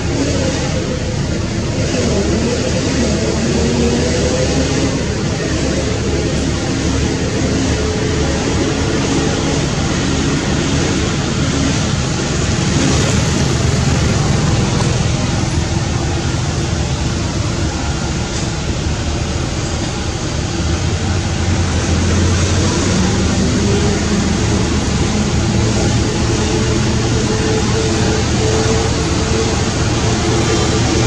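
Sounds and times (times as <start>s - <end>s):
low engine hum: 0.0s - 31.0s
traffic rumble and hiss: 0.0s - 31.0s.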